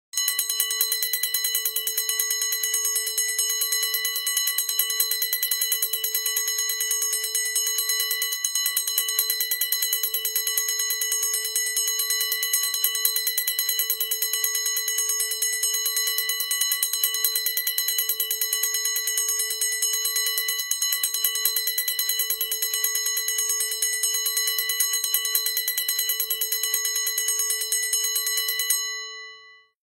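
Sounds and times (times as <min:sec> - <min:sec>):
bell ringing rapidly: 0:00.2 - 0:29.6.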